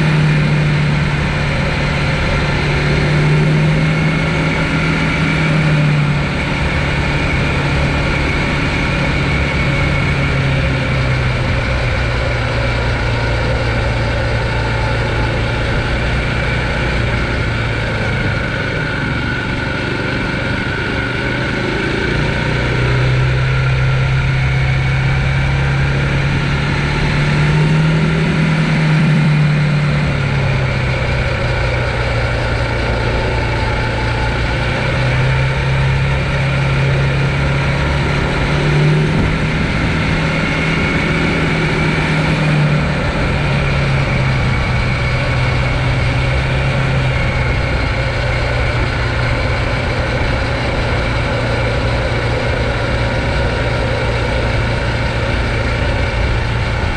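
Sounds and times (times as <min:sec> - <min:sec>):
electric bike motor hum: 0:00.0 - 0:56.9
wind rumble on microphone: 0:00.0 - 0:56.9.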